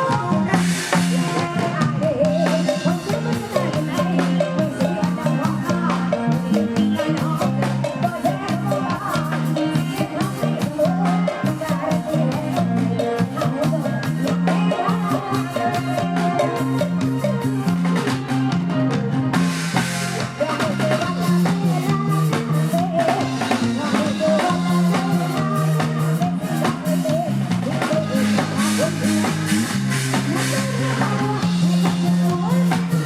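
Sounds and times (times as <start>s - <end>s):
bass line: 0.0s - 33.0s
drum kit rimshots: 0.0s - 33.0s
electric guitar: 0.0s - 33.0s
live band playing pop song: 0.0s - 33.0s.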